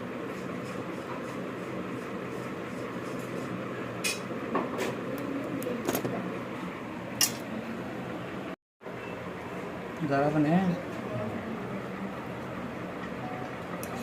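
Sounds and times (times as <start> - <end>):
steady workshop hum: 0.0 - 14.0.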